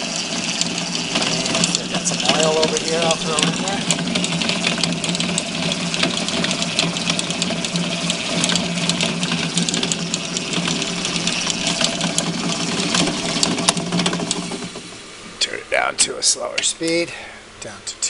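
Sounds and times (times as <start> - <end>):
mixer motor and gear hum: 0.0 - 17.1
quick irregular ticks: 0.1 - 14.7.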